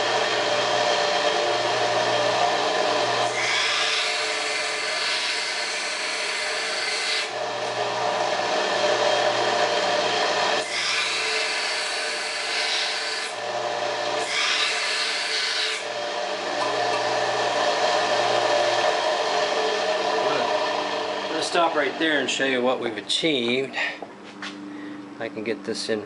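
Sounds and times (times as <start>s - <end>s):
belt grinder grinding steel: 0.0s - 23.2s.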